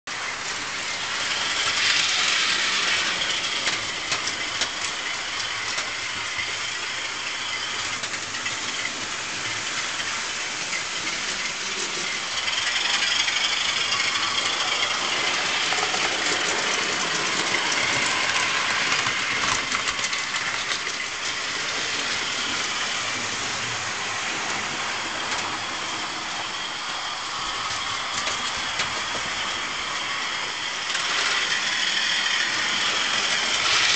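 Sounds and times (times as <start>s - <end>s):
model train motor whirr: 0.1s - 33.9s
wheels clicking over track: 0.1s - 33.9s.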